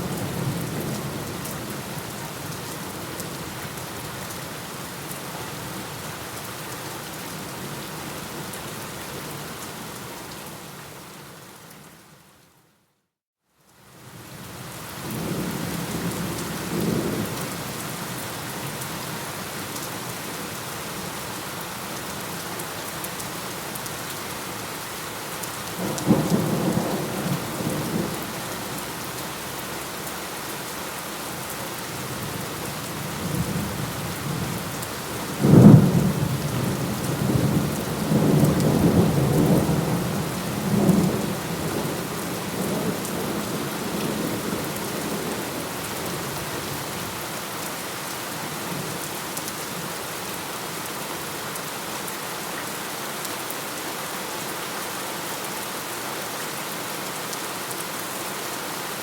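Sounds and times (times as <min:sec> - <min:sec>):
steady rain falling: 0:00.0 - 0:12.7, 0:13.5 - 0:59.0.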